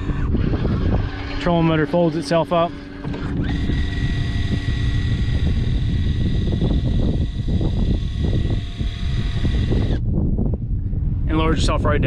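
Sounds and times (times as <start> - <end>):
electric motor whine: 0.0 - 10.2
wind rumble on microphone: 0.0 - 12.0.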